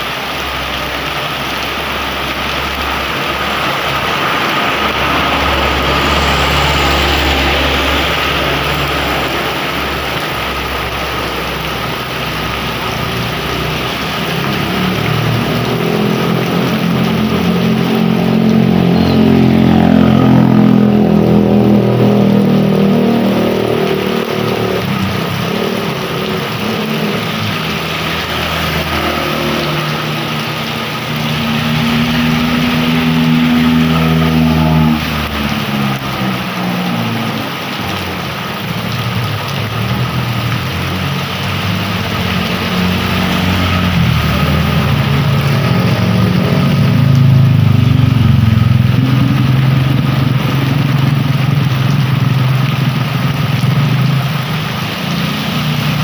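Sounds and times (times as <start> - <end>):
heavy rain: 0.0 - 56.0
vehicle engines passing: 0.0 - 56.0.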